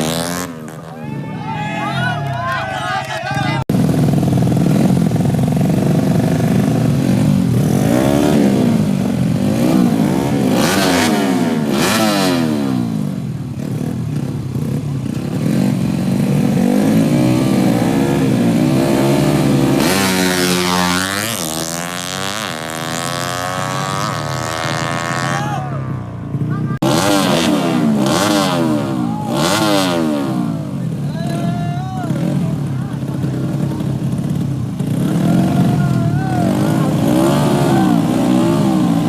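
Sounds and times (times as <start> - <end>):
motorcycle accelerating through gears: 0.0 - 0.9, 3.7 - 31.1, 32.0 - 39.0
motorcycle engines revving: 0.0 - 39.0.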